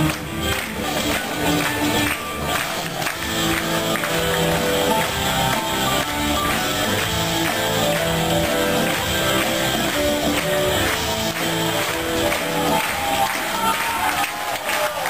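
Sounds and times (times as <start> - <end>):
steady percussion beat: 0.0 - 14.6.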